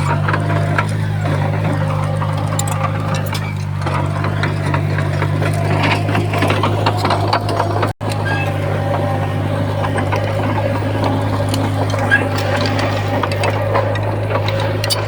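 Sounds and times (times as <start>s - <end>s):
diesel engine hum: 0.0s - 15.0s
metal clanks and rattles: 0.0s - 15.0s.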